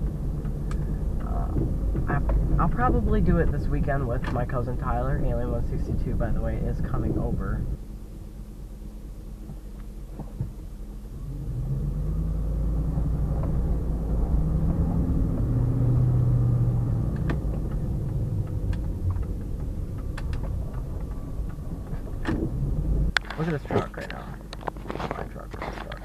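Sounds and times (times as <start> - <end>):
truck engine accelerating: 0.0 - 26.0.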